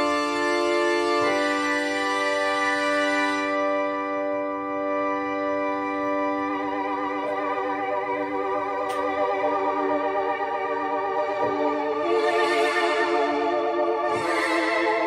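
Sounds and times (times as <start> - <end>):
organ-like keyboard chords: 0.0 - 15.0.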